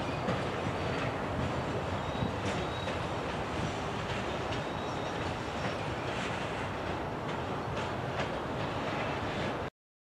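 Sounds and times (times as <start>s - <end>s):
train wheels rumbling on track: 0.0s - 9.7s.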